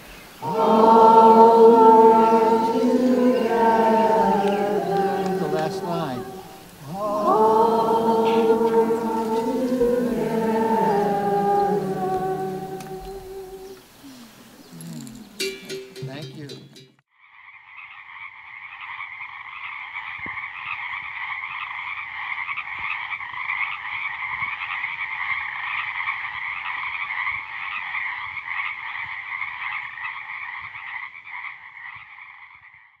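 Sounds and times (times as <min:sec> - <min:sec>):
chorus of calling frogs: 0:00.0 - 0:15.7, 0:17.1 - 0:33.0.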